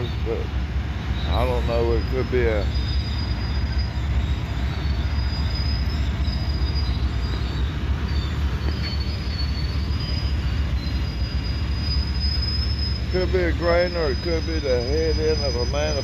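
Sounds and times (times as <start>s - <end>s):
high wheel squeals: 0.0s - 16.0s
train wheels rumbling on rail: 0.0s - 16.0s.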